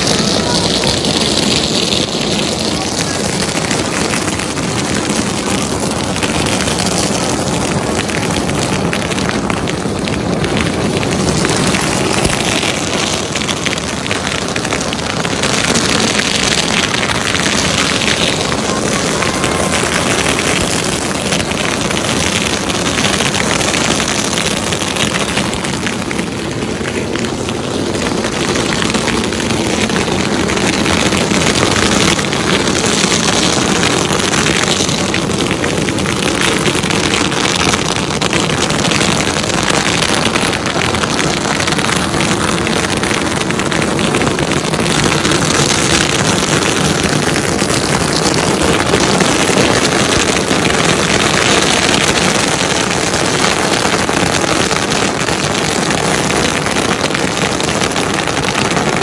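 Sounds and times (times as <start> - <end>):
firecrackers popping rapidly: 0.0 - 59.0.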